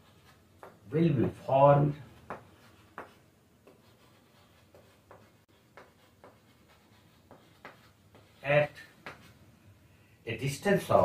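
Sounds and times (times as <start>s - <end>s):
chalk tapping and scraping on blackboard: 0.0s - 9.5s.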